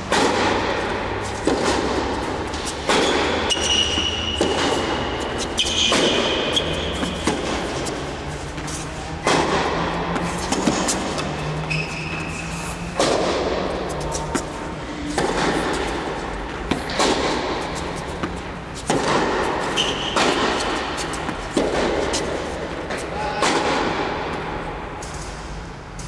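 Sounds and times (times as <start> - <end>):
tennis ball racket hits: 0.0 - 26.0.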